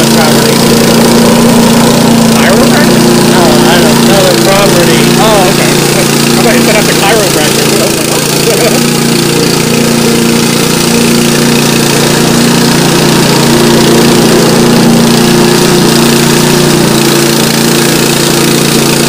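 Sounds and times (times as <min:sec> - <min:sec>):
lawn mower engine running: 0:00.0 - 0:19.0
mower cutting grass and brush: 0:00.0 - 0:19.0.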